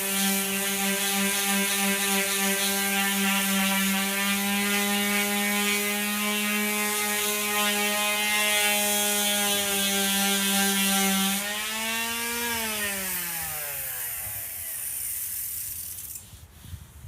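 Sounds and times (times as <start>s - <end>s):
electric power tool winding down: 0.0s - 16.2s.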